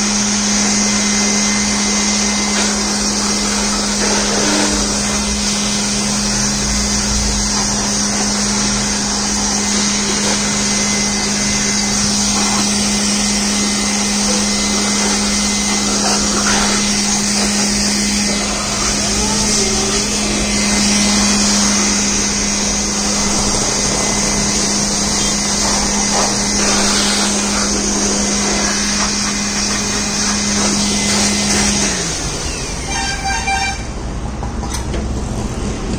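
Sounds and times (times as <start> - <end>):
blower motor winding down: 0.0 - 34.9
electric air blower running: 0.0 - 35.4.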